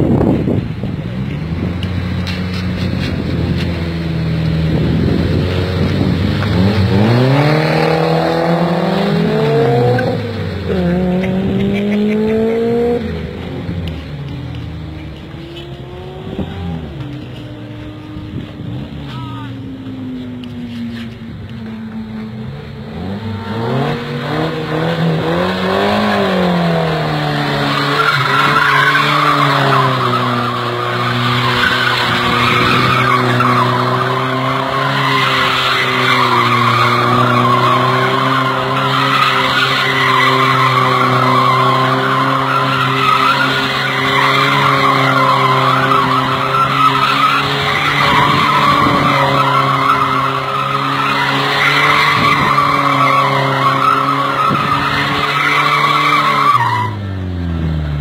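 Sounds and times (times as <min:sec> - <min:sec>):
car engine revving: 0:00.0 - 0:58.0
tyres squealing and skidding: 0:02.1 - 0:57.7.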